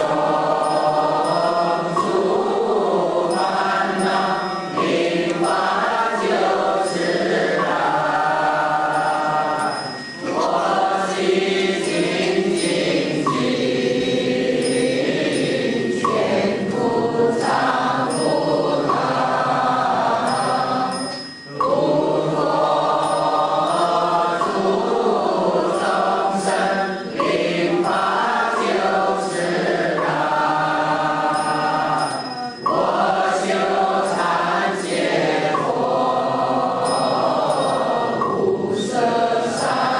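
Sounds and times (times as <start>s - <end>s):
group chanting: 0.0s - 39.9s.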